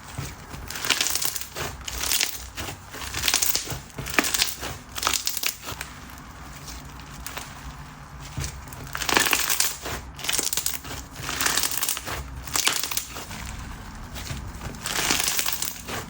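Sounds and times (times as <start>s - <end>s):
slime popping and crackling: 0.0s - 16.0s.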